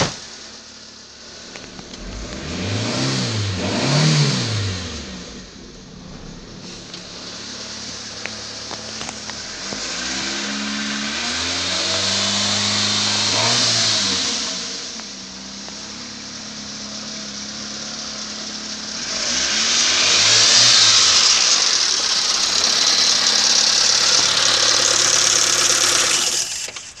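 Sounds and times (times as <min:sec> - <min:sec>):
car engine running: 0:00.2 - 0:27.0
engine whirring hiss: 0:01.2 - 0:15.0, 0:17.6 - 0:27.0.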